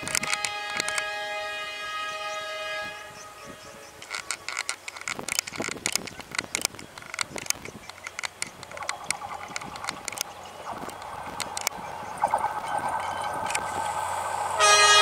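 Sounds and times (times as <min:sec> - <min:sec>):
train wheels clicking on track: 0:00.0 - 0:01.3, 0:03.0 - 0:15.0
locomotive engine running: 0:00.0 - 0:15.0.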